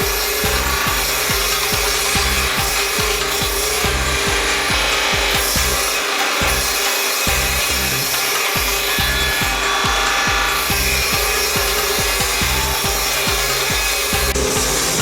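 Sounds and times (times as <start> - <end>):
power tool rasping on wood: 0.0 - 15.0.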